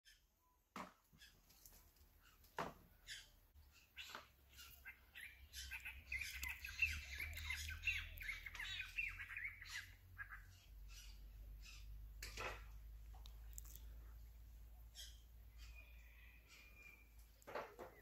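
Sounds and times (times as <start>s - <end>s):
birds squawking and chattering: 1.1s - 13.0s, 14.4s - 18.0s.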